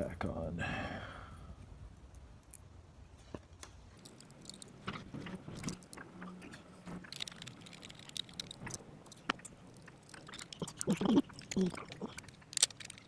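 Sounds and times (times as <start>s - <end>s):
faint clicks and scrapes of parts: 2.1s - 13.0s.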